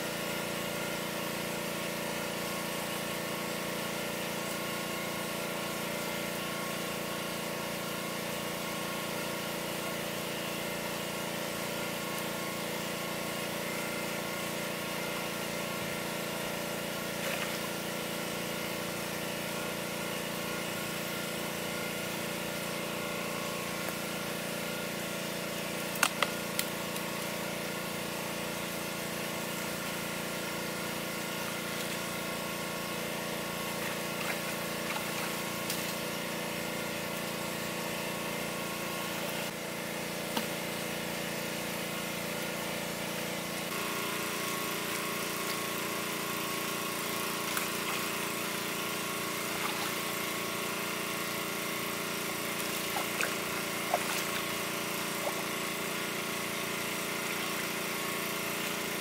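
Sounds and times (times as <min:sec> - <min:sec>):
water pump engine humming: 0:00.0 - 0:59.0.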